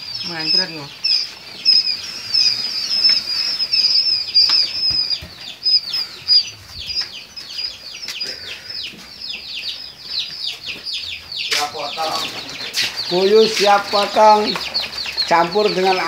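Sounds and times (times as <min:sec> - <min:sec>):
quail chicks peeping: 0:00.0 - 0:16.0.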